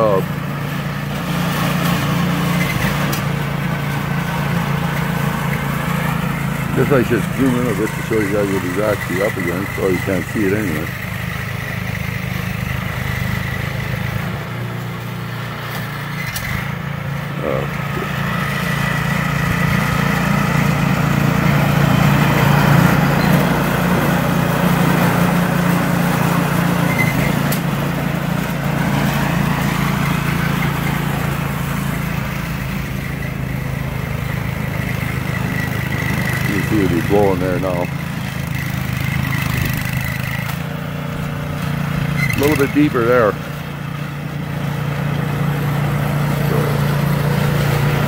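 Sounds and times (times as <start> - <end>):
snowblower engine running: 0.0 - 48.0.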